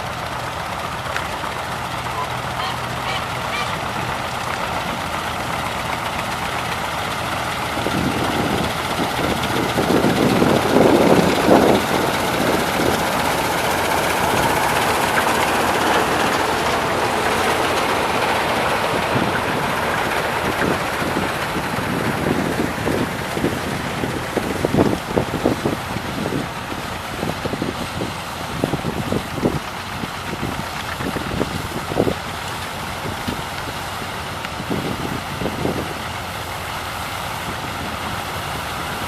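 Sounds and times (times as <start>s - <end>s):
harvesting machinery running: 0.0s - 39.0s.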